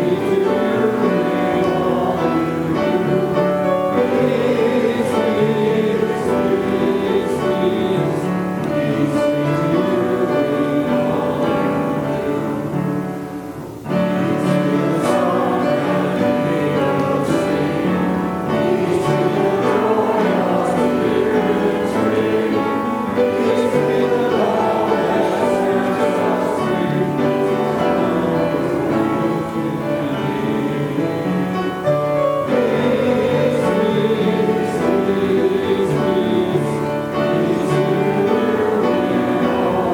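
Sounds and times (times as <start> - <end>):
choir singing: 0.0 - 39.9
piano accompaniment: 0.0 - 39.9.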